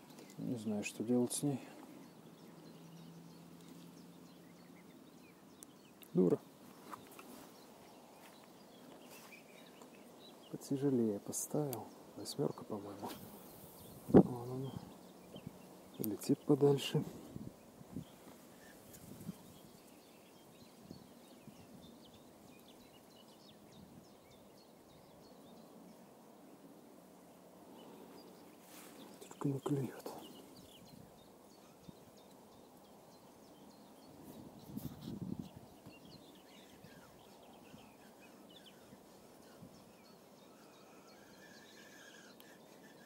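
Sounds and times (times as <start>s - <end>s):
faint bird chirps: 0.0s - 43.0s.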